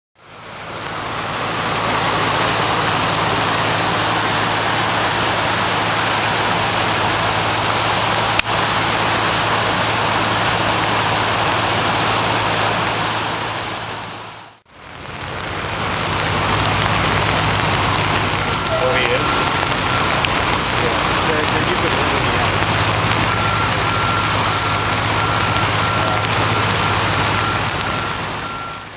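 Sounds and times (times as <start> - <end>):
creek rushing: 0.2 - 28.9.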